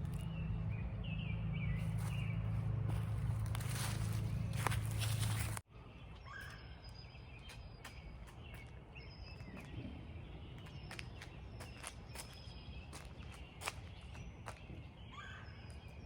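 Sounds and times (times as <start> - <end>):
bird chirps and chips: 0.0 - 16.0.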